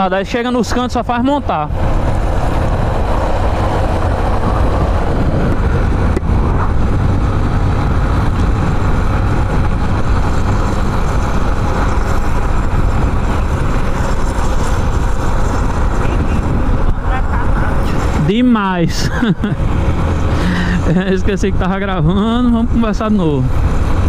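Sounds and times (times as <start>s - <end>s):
motorcycle engine running: 0.0s - 24.0s
road noise: 0.0s - 24.0s
wind rushing over microphone: 0.0s - 24.0s.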